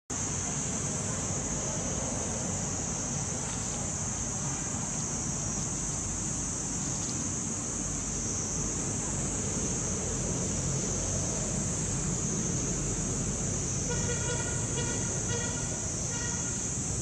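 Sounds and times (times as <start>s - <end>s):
cicadas droning: 0.1s - 17.0s
low outdoor rumble: 0.2s - 17.0s.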